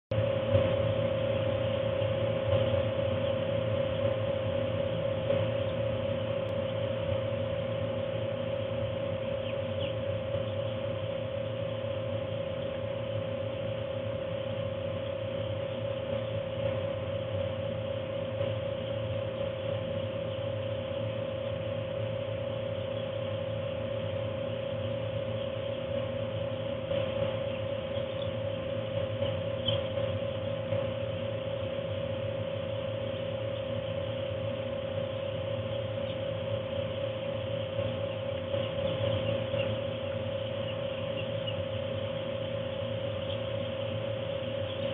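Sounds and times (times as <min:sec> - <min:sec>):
heater blower humming: 0:00.1 - 0:44.9
chicks peeping: 0:00.2 - 0:44.9.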